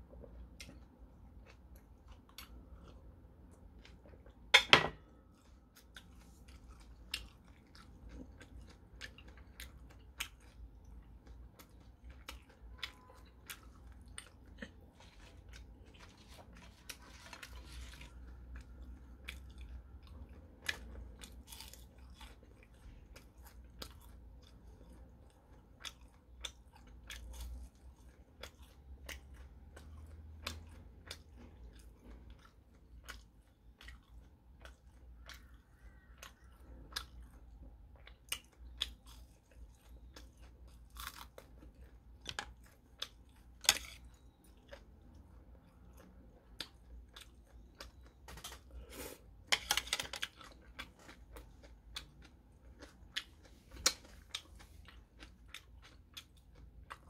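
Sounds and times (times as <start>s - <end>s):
crunching fried shrimp: 5.2s - 57.0s.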